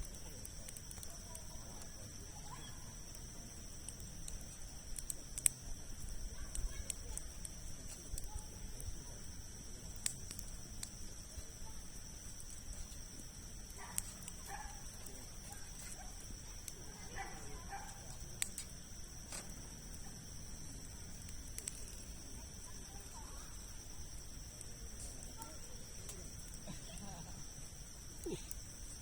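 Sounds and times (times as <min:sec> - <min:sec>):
campfire crackling: 0:00.0 - 0:29.0
faint distant voices: 0:00.0 - 0:29.0.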